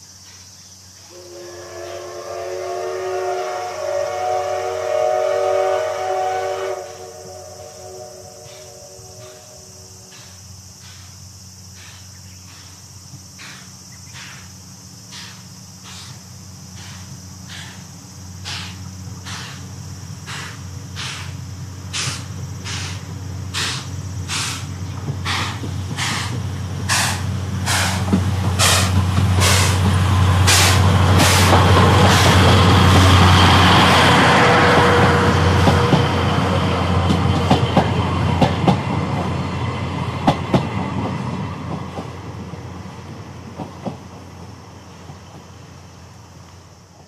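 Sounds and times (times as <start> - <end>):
steam locomotive chuffing: 1.1 - 46.2.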